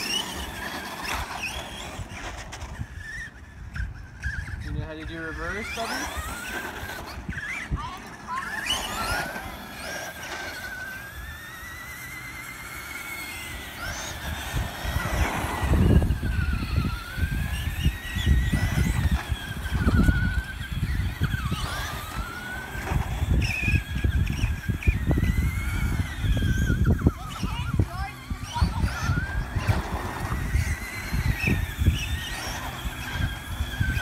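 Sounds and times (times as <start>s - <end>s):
rc truck motors whining: 0.0s - 34.0s.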